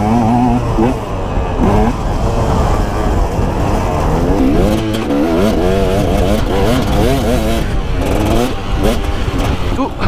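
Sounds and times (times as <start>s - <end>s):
motorcycle engine revving: 0.0s - 10.0s
wind rumble: 0.0s - 10.0s.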